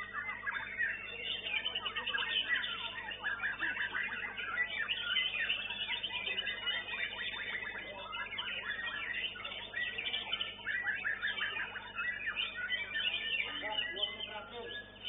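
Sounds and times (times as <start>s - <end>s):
many birds singing: 0.0s - 15.0s.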